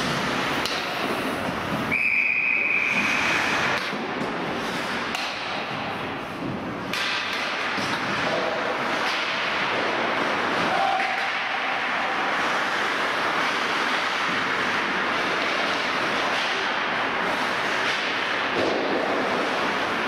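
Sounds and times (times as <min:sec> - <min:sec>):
hockey sticks and puck clacking: 0:00.0 - 0:20.0
skates scraping on ice: 0:00.0 - 0:20.0.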